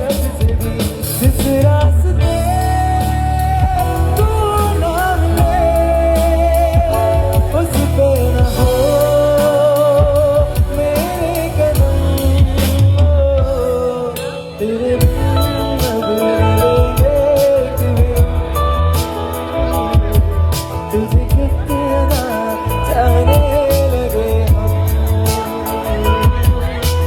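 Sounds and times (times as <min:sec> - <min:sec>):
band playing pop love song: 0:00.0 - 0:27.0.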